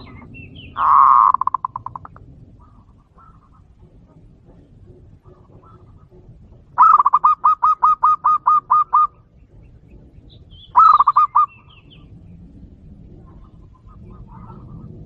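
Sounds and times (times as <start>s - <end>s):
dove cooing: 0.0s - 12.1s, 13.0s - 15.0s.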